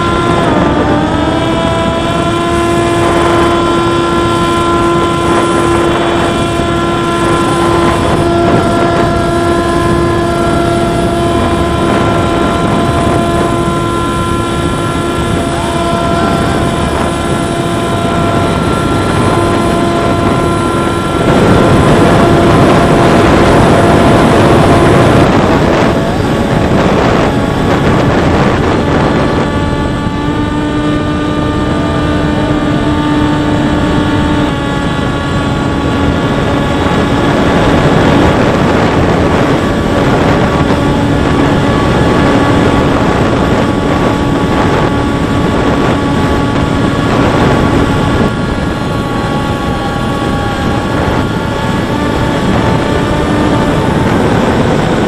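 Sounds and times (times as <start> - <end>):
motor whine: 0.0 - 55.0
rushing wind: 0.0 - 55.0.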